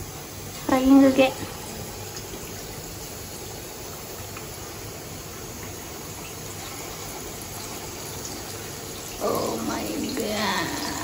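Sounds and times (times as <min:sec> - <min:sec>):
meat deep-frying in oil: 0:00.0 - 0:11.0.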